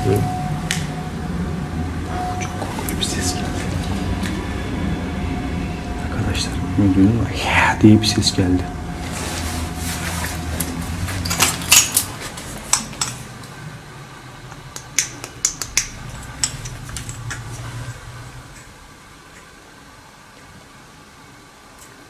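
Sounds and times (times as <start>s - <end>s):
low rumble: 0.0s - 21.5s.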